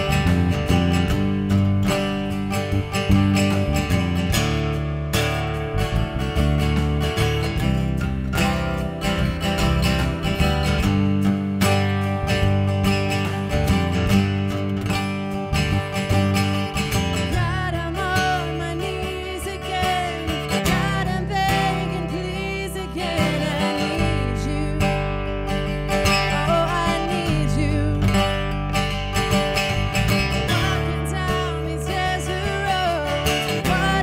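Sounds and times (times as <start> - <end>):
acoustic guitar strumming: 0.0 - 34.0
held bass notes: 0.0 - 34.0.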